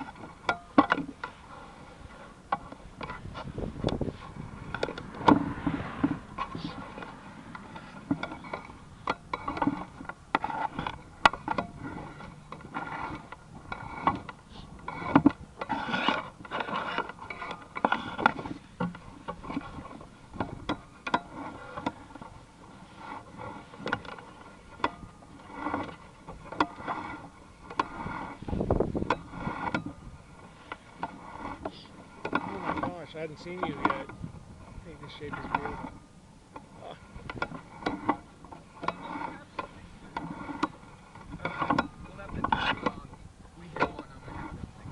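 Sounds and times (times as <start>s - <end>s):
cable reel clicks and scrapes: 0.0s - 44.9s.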